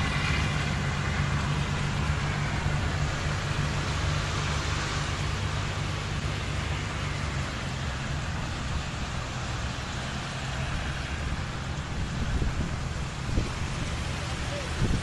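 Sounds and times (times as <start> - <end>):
car engine hum: 0.0 - 15.0
rain: 0.0 - 15.0
wind: 0.0 - 15.0.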